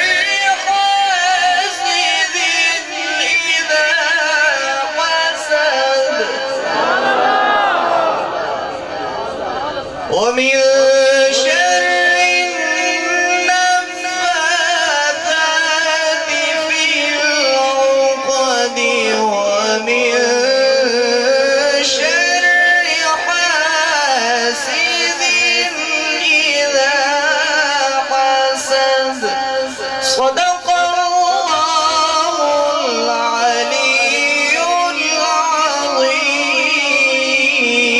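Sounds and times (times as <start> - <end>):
person reciting melodically: 0.0 - 37.9.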